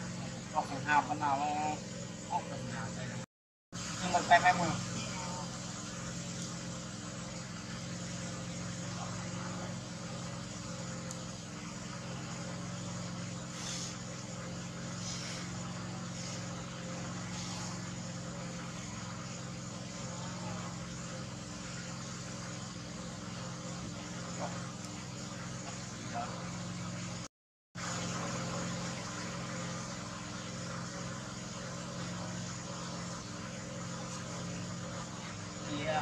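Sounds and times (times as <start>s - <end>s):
low motor hum: 0.0s - 36.0s
steady hiss: 3.8s - 27.2s, 27.8s - 36.0s.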